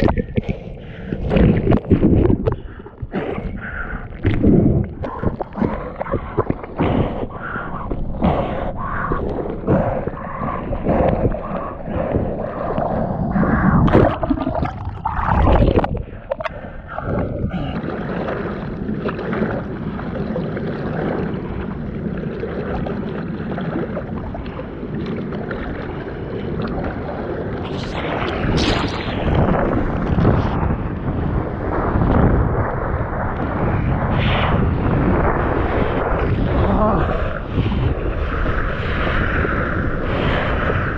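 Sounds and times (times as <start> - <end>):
water splashing and rushing: 0.0 - 40.9.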